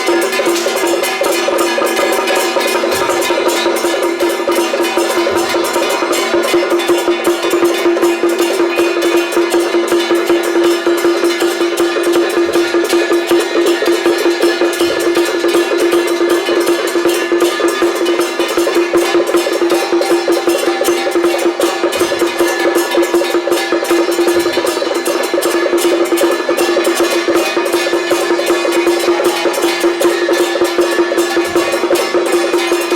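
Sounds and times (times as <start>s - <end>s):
metallic percussion music: 0.0s - 32.9s
steady held tone: 0.0s - 32.9s.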